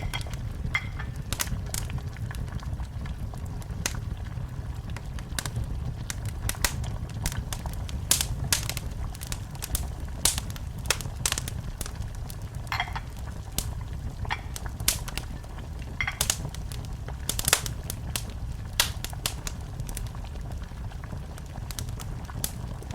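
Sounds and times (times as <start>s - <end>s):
low rumble of flames: 0.0s - 22.9s
wood fire crackling and popping: 0.0s - 22.9s.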